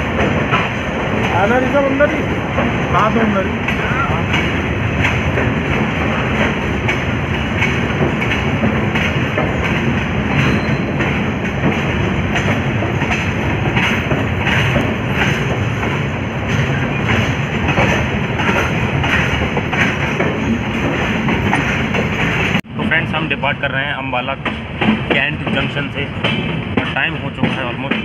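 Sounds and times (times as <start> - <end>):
train wheels clacking over rail joints: 0.0 - 22.6, 24.2 - 28.0
train rumble: 0.0 - 28.0.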